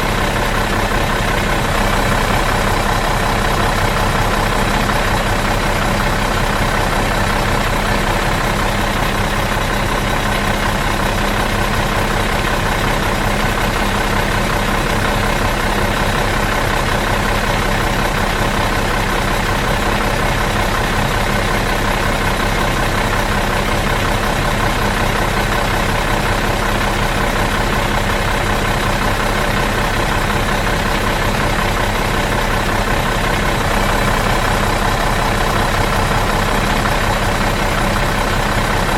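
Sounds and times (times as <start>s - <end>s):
bus engine idling: 0.0s - 38.9s.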